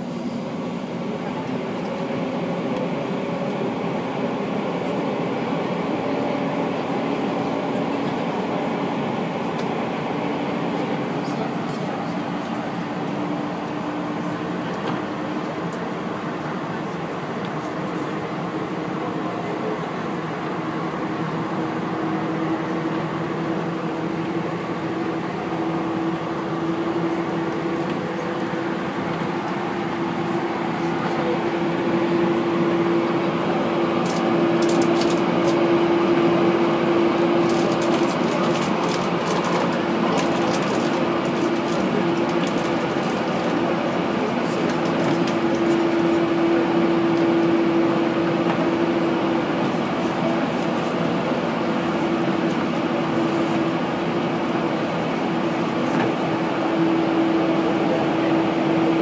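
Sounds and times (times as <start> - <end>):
train cabin hum: 0.0 - 59.0.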